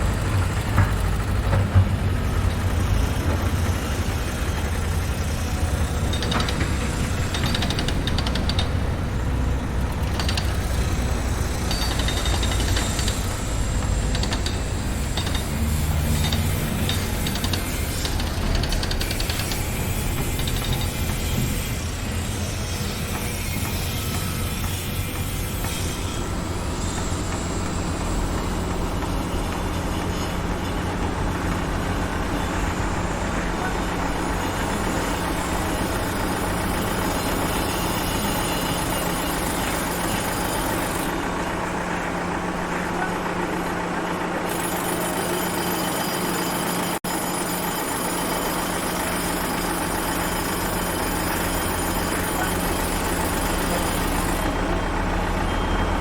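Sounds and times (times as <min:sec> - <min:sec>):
construction site noise: 0:00.0 - 0:56.0
diesel engine running: 0:00.0 - 0:56.0.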